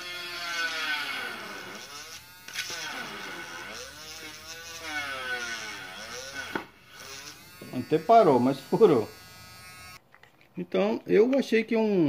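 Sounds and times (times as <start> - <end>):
mini electric drill whining: 0.0 - 10.0.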